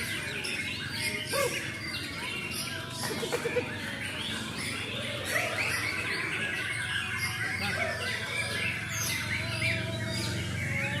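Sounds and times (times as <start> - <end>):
bird singing chirps and whistles: 0.0 - 11.0.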